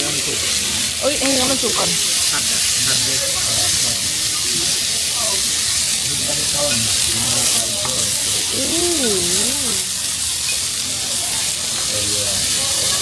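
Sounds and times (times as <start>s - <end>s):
food sizzling on iron plate: 0.0s - 13.0s.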